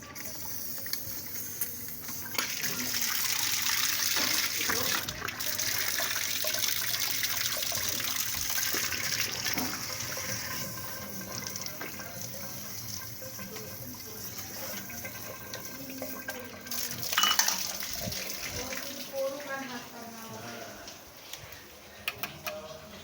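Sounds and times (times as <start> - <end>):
water running from a tap: 0.0 - 20.5.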